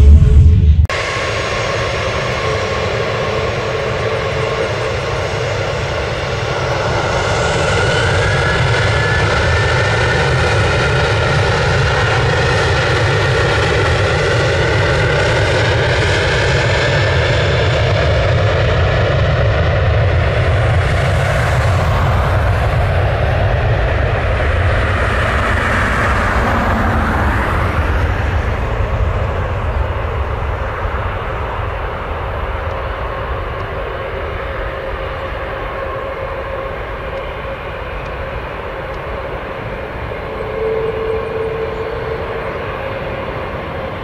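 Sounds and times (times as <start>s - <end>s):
jet engines roaring and whining: 0.0s - 44.0s.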